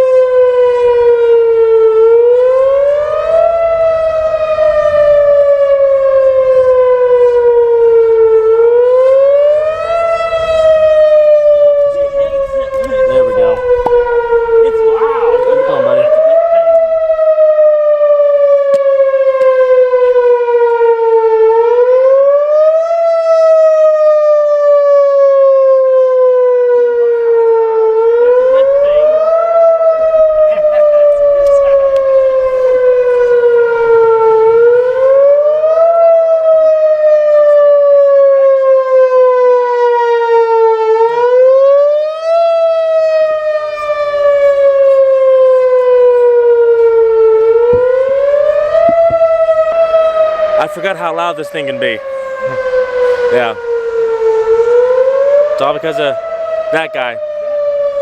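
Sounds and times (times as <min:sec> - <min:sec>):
tornado warning siren wailing: 0:00.0 - 0:58.0.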